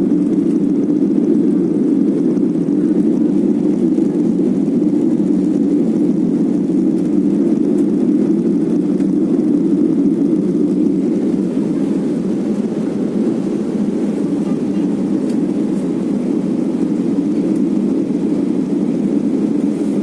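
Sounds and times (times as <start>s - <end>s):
airplane cabin engine drone: 0.0s - 20.0s.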